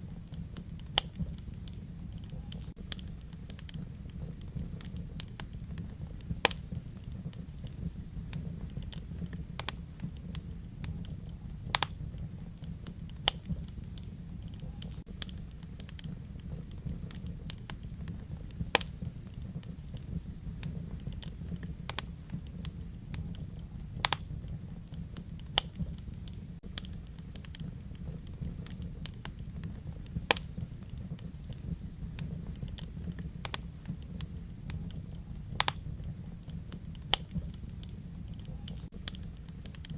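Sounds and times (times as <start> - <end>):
fire crackling: 0.0 - 39.9
low rumble of flames: 0.0 - 39.9
sharp pop of fire: 0.2 - 39.9.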